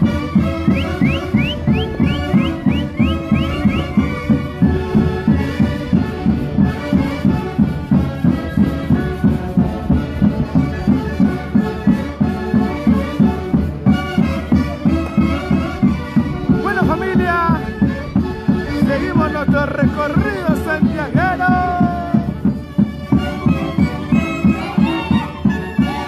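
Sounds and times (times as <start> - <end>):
steady drum beat: 0.0 - 26.0
wind instruments playing melody: 0.0 - 26.0.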